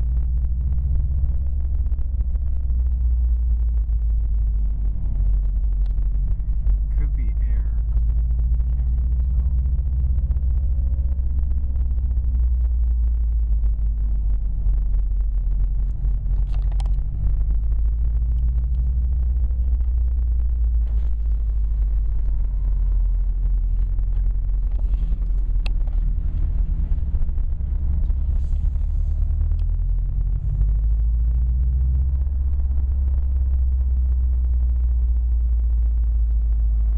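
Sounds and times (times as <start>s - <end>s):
car engine low rumble: 0.0s - 36.9s.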